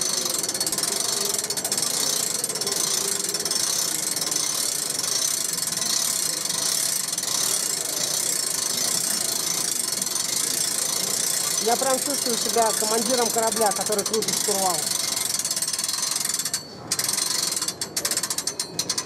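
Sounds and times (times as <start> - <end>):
hand-cranked gears clicking and rattling: 0.0 - 19.0.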